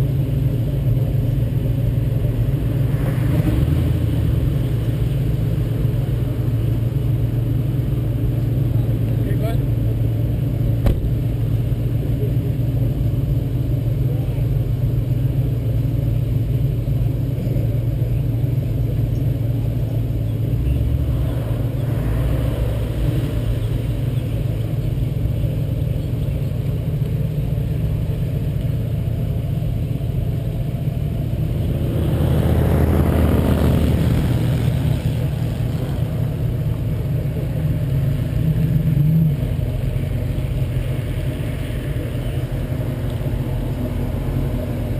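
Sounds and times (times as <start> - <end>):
car engine idling: 0.0 - 44.9
cars driving slowly past: 0.0 - 44.9.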